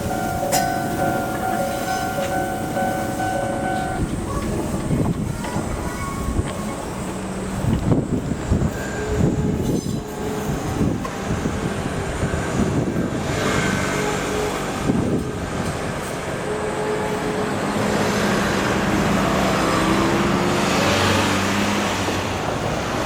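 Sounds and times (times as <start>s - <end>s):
cars passing: 0.0s - 23.0s.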